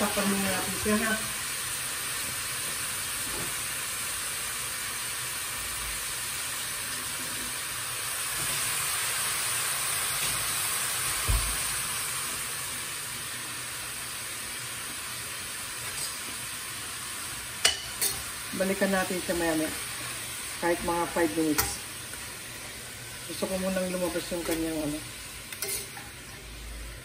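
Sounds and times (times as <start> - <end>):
meat sizzling in a pan: 0.0 - 27.0.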